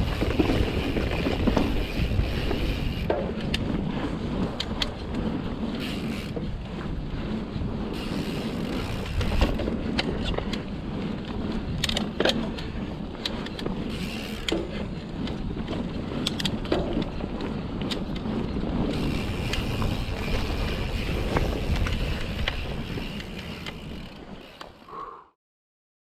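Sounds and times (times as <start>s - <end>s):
wind on microphone: 0.0s - 24.5s
bike rattling over bumps: 0.0s - 24.9s
bike tyres rolling on dirt: 0.0s - 24.9s.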